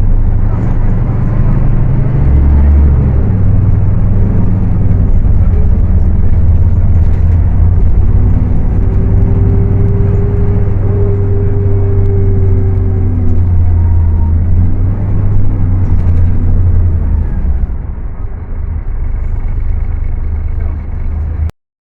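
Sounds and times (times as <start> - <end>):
bus diesel engine rumble: 0.0 - 21.5.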